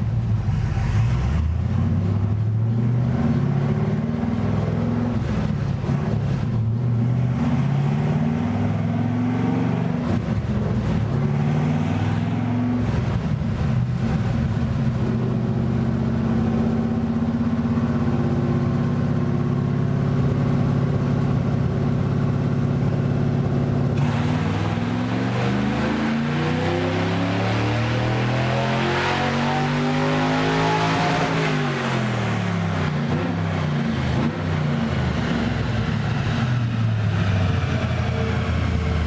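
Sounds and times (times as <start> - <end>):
car engine running under load: 0.0 - 39.0.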